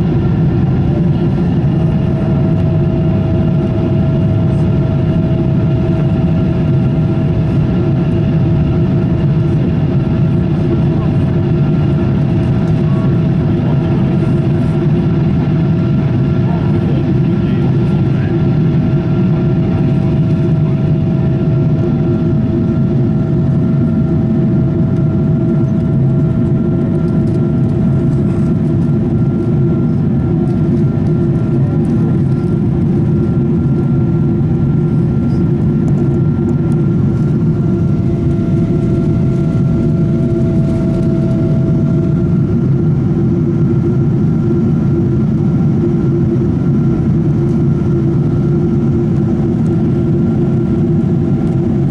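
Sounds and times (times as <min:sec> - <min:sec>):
airplane cabin engine drone: 0:00.0 - 0:51.9.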